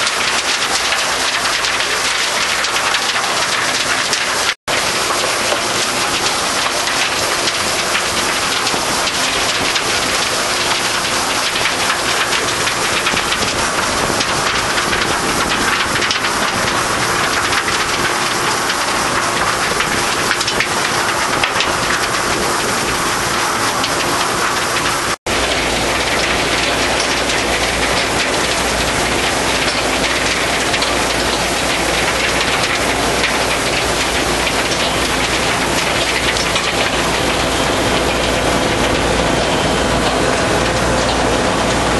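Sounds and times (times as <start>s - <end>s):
soil rushing on conveyor belts: 0.0s - 41.9s
soil screening machine running: 0.0s - 41.9s.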